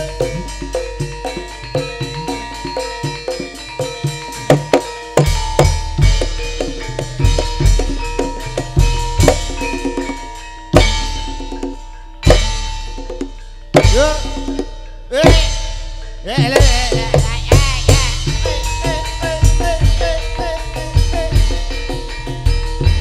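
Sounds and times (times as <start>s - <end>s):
drumming with deep strokes: 0.0s - 23.0s
gamelan music: 0.0s - 23.0s
ringing metal gong-chimes: 0.0s - 23.0s.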